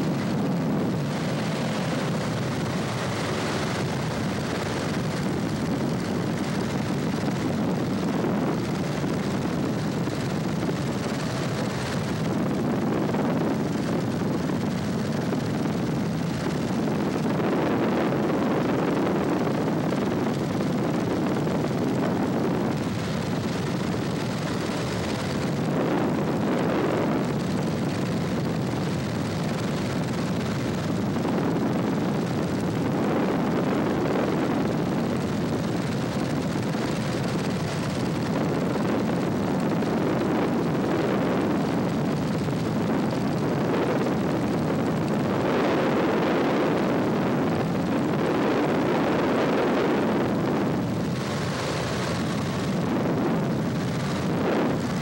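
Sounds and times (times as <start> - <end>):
airplane engine droning: 0.0 - 55.0.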